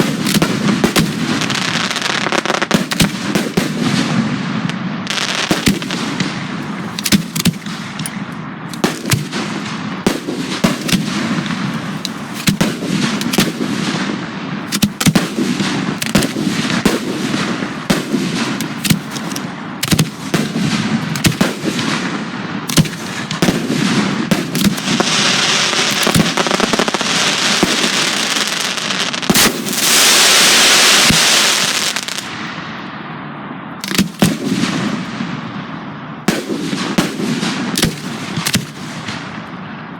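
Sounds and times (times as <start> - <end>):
fireworks launching and bursting: 0.0 - 33.0, 33.8 - 39.9.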